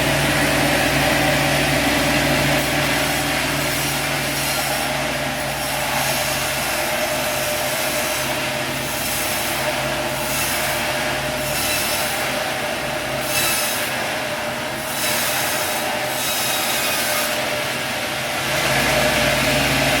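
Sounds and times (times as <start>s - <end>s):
motor hum and whine: 0.0s - 20.0s
saw blade rasping through log: 0.4s - 17.5s.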